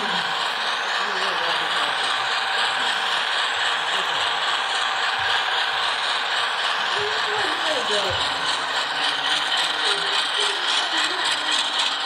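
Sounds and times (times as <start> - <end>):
model train wheels on rails: 0.0 - 12.0.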